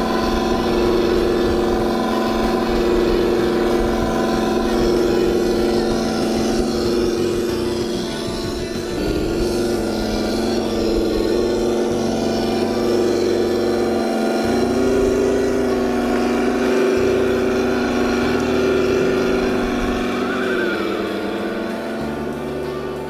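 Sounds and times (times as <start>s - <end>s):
simulated truck engine revving: 0.0s - 23.0s.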